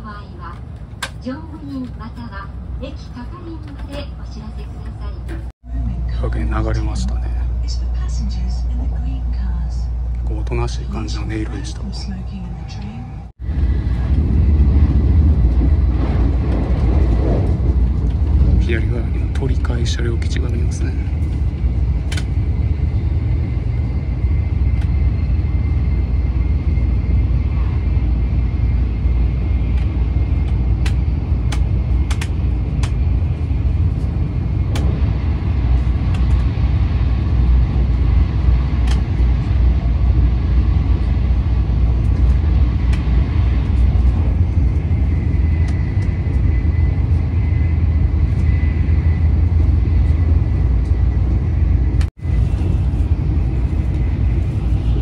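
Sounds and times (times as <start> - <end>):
train running low rumble: 0.0 - 55.0.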